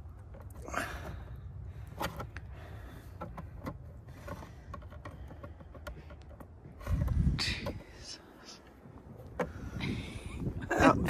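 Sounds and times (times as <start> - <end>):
light handling clicks and knocks: 0.0 - 10.2
steady low rumble: 0.0 - 11.0.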